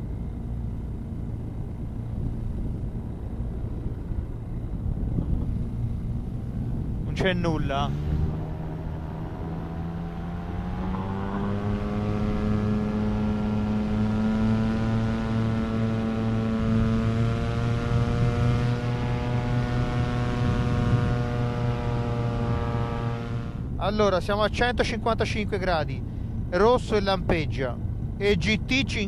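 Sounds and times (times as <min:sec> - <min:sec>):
paramotor engine and propeller: 0:00.0 - 0:29.0.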